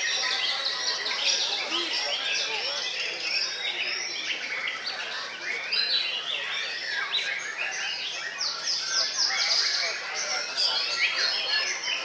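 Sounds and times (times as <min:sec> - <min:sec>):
birds singing in chorus: 0:00.0 - 0:12.0.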